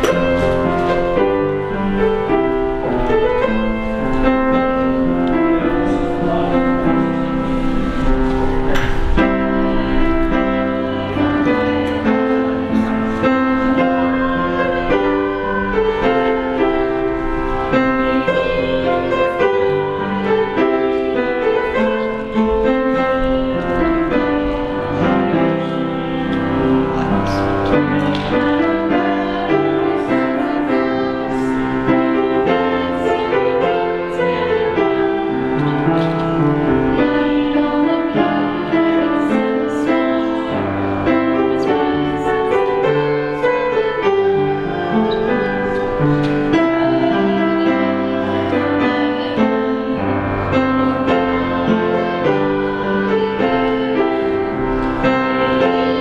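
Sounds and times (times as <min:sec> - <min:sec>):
slow keyboard chords: 0:00.0 - 0:56.0.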